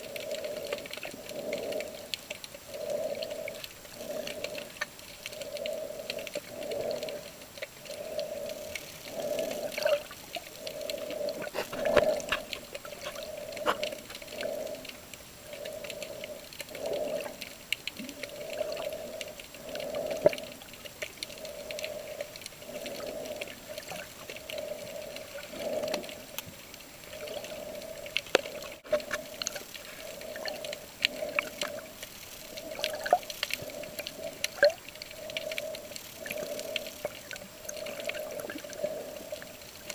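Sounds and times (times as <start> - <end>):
clicks and crackles: 0.0 - 39.9
underwater low hum: 0.0 - 39.9
water movement: 0.0 - 39.9.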